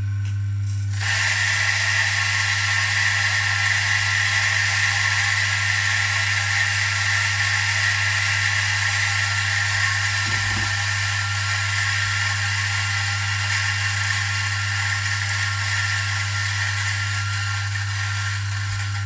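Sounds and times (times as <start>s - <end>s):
electric coffee grinder running: 0.0s - 19.0s.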